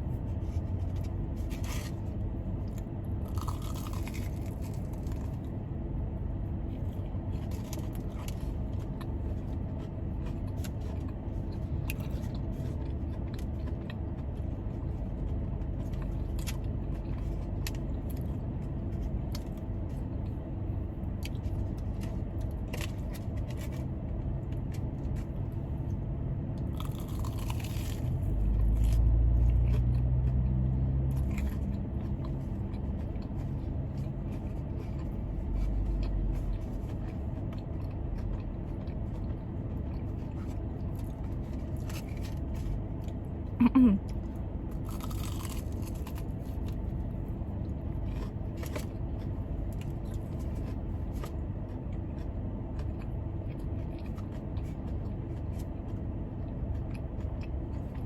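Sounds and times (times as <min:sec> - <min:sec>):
car air conditioning hum: 0:00.0 - 0:58.0
crunching and chewing food: 0:00.0 - 0:58.0
deep loud hum: 0:00.0 - 0:58.0.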